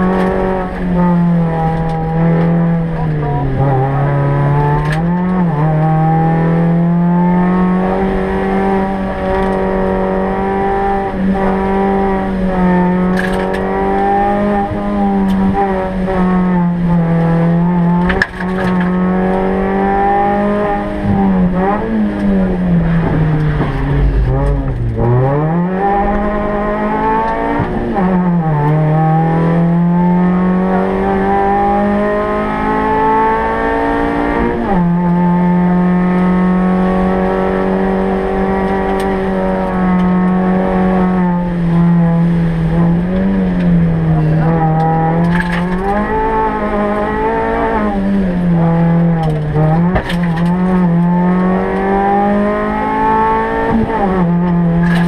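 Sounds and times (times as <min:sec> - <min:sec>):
rally car engine from cabin: 0:00.0 - 0:55.0.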